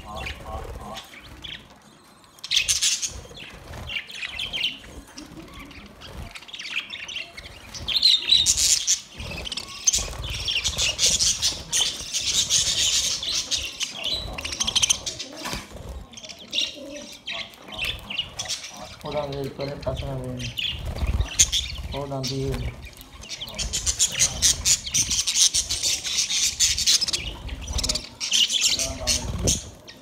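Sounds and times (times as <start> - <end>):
wings flapping: 0.0 - 1.8, 2.4 - 30.0
budgerigars chattering and chirping: 0.0 - 30.0.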